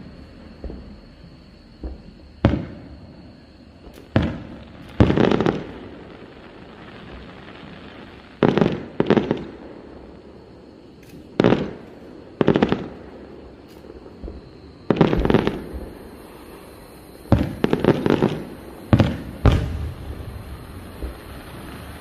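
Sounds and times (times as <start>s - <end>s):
firework shells booming: 0.0s - 10.1s, 11.0s - 22.0s
firework crackle: 0.0s - 22.0s.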